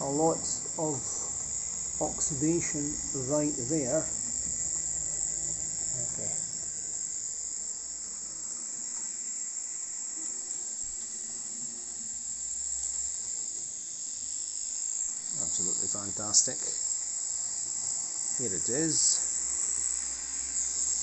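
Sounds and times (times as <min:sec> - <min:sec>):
model locomotive high-pitched hiss: 0:00.0 - 0:21.0.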